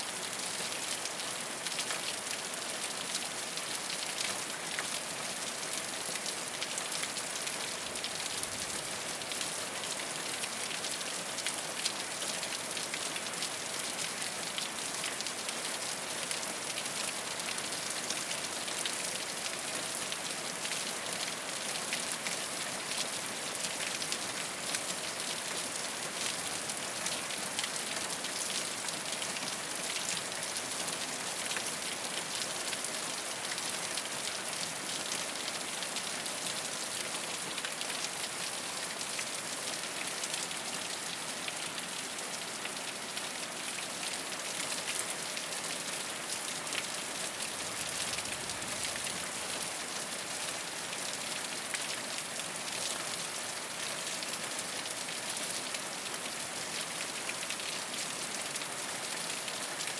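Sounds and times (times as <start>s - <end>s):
rain on a rooftop: 0.0s - 59.9s.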